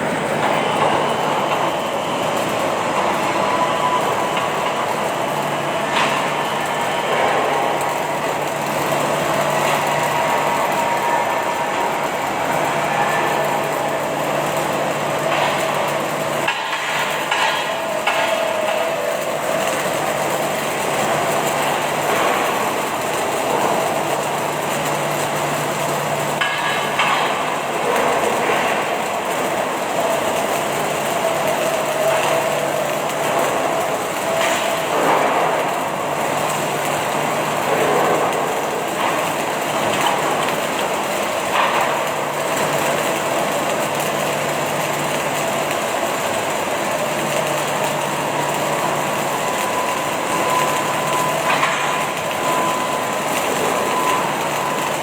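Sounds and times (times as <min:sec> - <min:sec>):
welding machine crackling hiss: 0:00.0 - 0:55.0.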